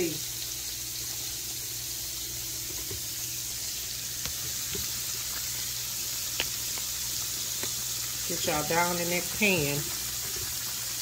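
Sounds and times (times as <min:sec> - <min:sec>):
meat frying in a skillet: 0:00.0 - 0:11.0.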